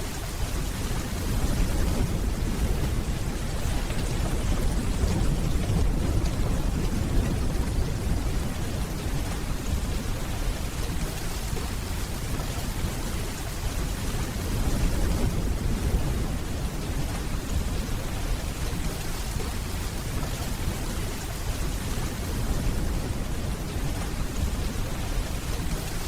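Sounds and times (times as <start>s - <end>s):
steady rainfall: 0.0s - 26.0s
distant thunder rumble: 0.4s - 26.0s.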